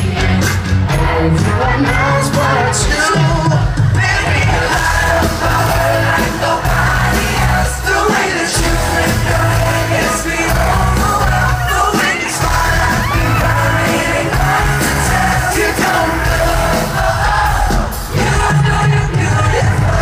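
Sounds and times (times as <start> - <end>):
fans yelling and singing along: 0.0 - 20.0
live pop band playing: 0.0 - 20.0.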